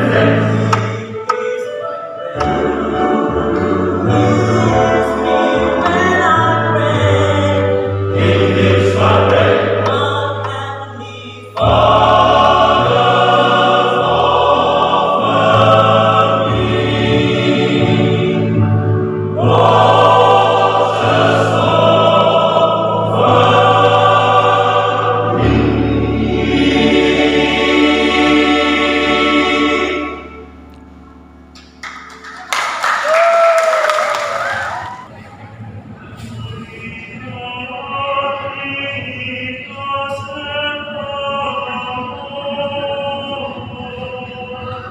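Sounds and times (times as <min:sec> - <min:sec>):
men's choir singing: 0:00.0 - 0:01.6, 0:02.3 - 0:30.6, 0:36.3 - 0:44.9.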